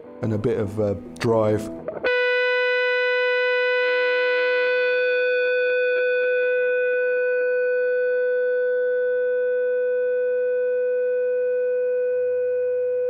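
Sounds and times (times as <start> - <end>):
lower guitar notes ringing: 0.0 - 13.0
fuzz electric guitar note: 1.0 - 13.0.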